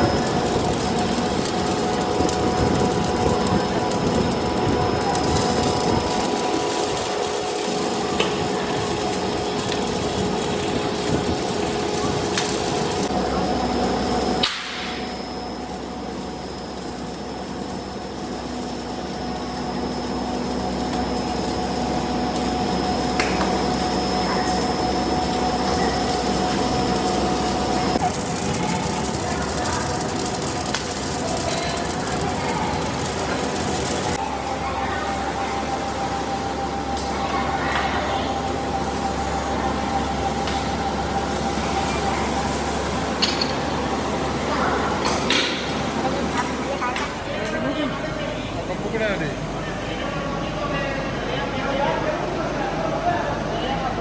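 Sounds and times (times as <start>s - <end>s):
factory machinery humming and whining: 0.0s - 54.0s.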